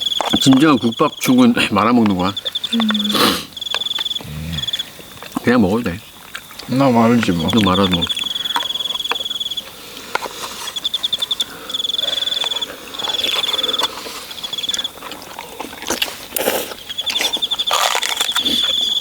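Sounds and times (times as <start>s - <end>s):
insect trilling: 0.0s - 15.0s, 15.8s - 19.0s.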